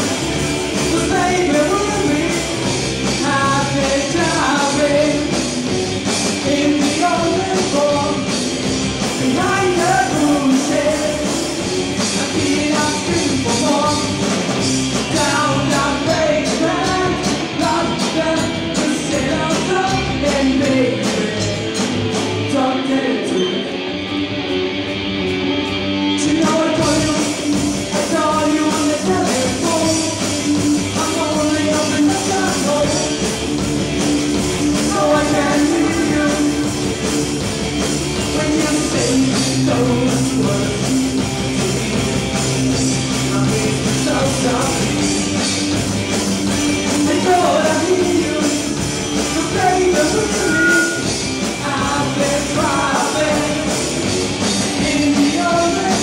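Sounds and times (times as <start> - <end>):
bass guitar: 0.0 - 56.0
drum kit: 0.0 - 56.0
electric guitars: 0.0 - 56.0
male lead vocal: 0.8 - 5.5, 6.2 - 23.9, 26.1 - 33.3, 34.6 - 37.1, 38.1 - 41.2, 43.0 - 45.5, 46.5 - 56.0.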